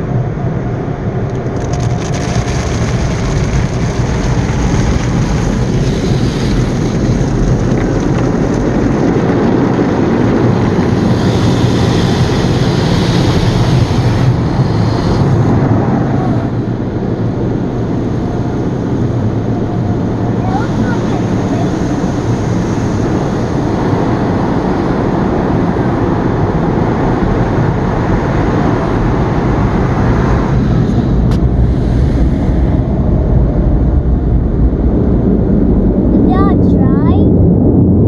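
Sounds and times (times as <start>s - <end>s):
car wash spray and machinery: 0.0s - 35.4s.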